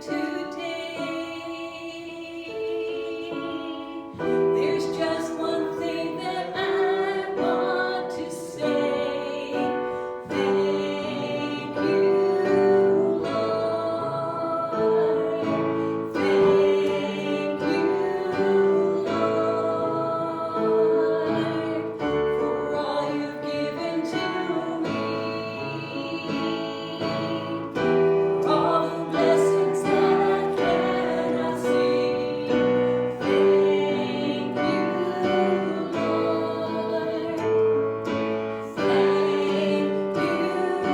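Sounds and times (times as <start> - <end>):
piano accompaniment: 0.0 - 40.9
voices singing slow melody: 0.0 - 40.9.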